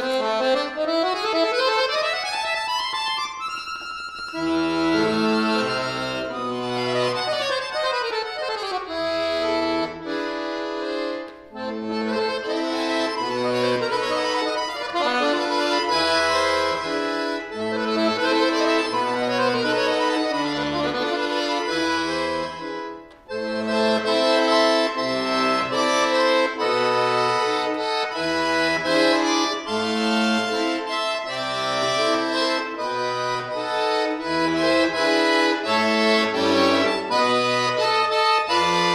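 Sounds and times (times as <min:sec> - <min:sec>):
button accordion playing fast runs: 0:00.0 - 0:38.9.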